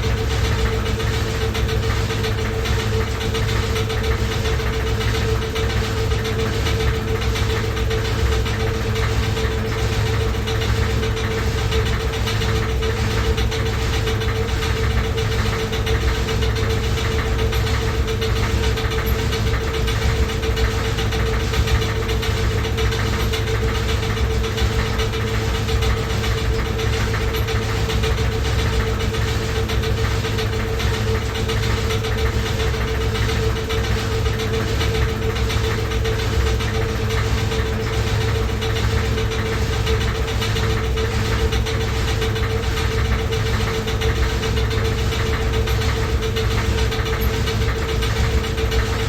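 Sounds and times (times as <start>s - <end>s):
washing machine running: 0.0s - 49.0s.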